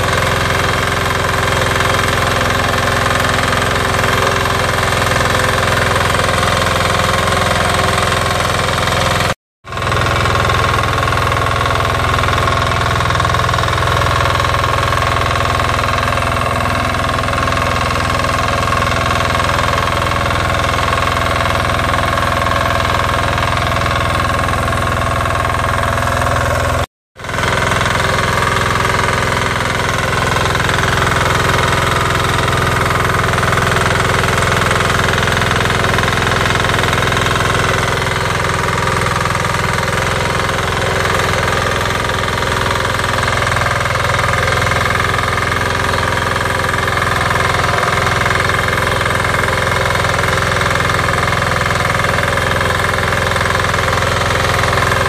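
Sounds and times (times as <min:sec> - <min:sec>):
tiller diesel engine running: 0:00.0 - 0:55.0.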